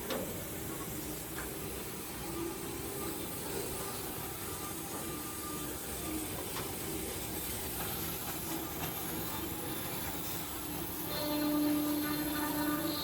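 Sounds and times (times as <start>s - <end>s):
boring machine hiss and hum: 0.0s - 13.0s
motor steady tone: 0.1s - 13.0s.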